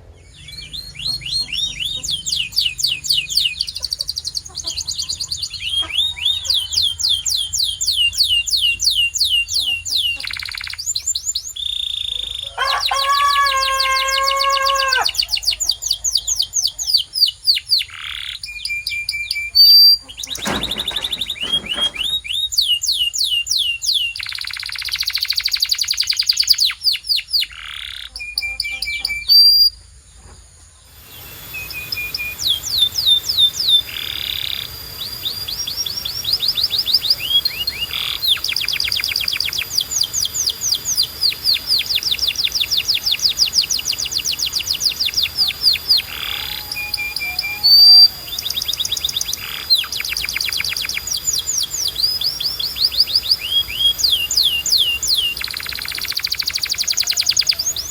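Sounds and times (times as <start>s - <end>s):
canary singing trills: 0.0s - 29.8s, 30.9s - 57.9s.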